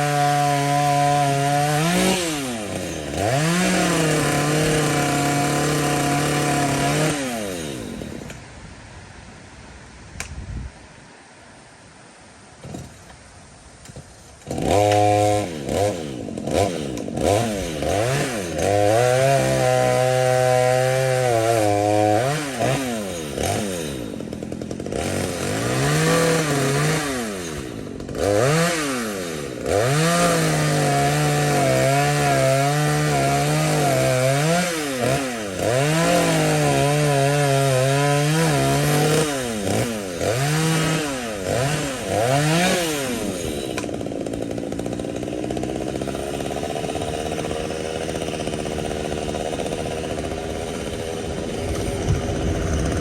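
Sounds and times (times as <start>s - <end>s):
chainsaw revving cutting wood: 0.0s - 8.4s, 14.4s - 53.0s.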